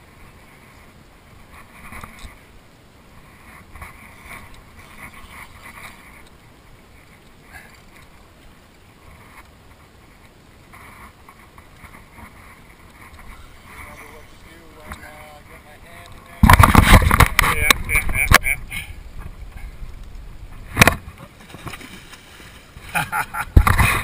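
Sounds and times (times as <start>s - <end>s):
water noise around boat: 0.0s - 24.0s
wind: 0.0s - 24.0s.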